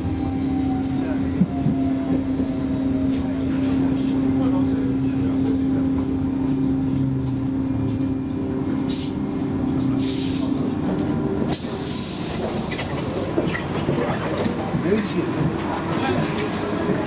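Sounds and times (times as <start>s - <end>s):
tram electrical hum: 0.0s - 17.0s.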